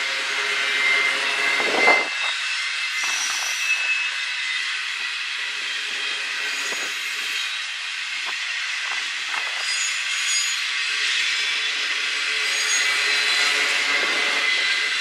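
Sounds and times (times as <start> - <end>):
high wheel squeals: 0.0 - 8.8, 9.4 - 15.0
steel wheels rolling on rail: 0.0 - 15.0.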